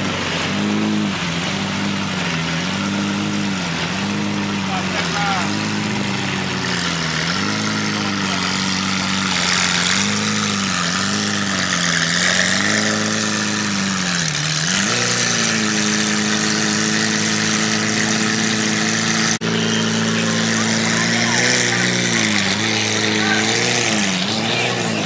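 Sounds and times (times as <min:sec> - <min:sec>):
sports car engine revving: 0:00.0 - 0:25.0.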